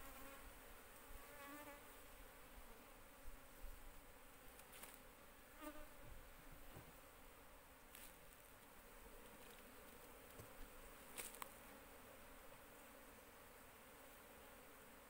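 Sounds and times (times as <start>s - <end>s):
faint buzzing of honeybees: 0.0s - 15.0s.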